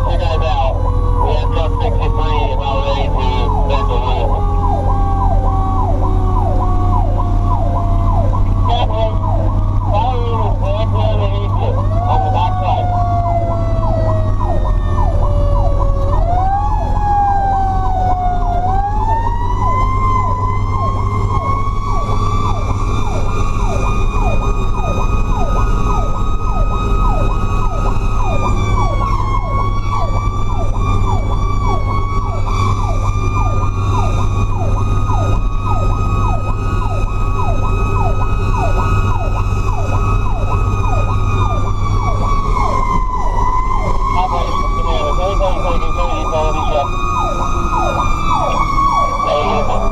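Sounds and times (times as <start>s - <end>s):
electronic siren yelping: 0.0s - 49.9s
mechanical siren screaming: 0.0s - 49.9s
truck engine drone: 0.0s - 49.9s.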